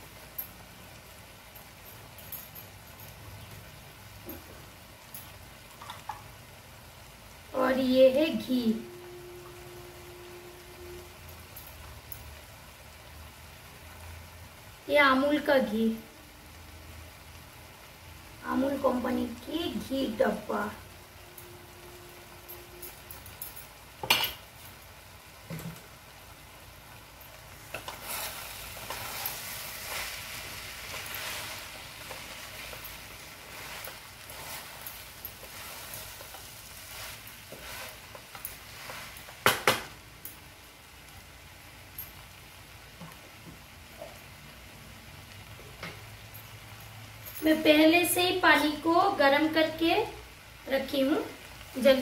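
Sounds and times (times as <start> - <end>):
rice sizzling in a pan: 0.0 - 52.0.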